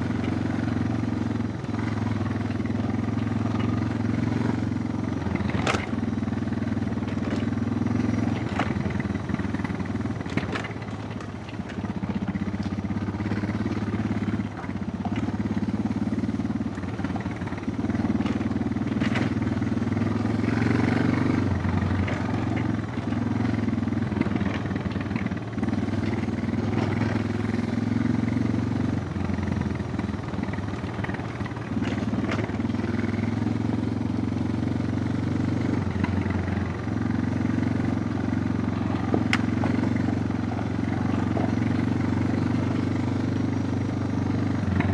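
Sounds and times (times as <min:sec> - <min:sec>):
motorcycle engine under load: 0:00.0 - 0:44.9.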